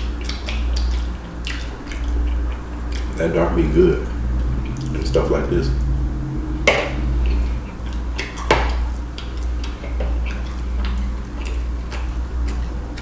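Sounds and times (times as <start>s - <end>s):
chewing: 0.0s - 5.2s, 6.9s - 13.0s
steady low hum: 0.0s - 13.0s.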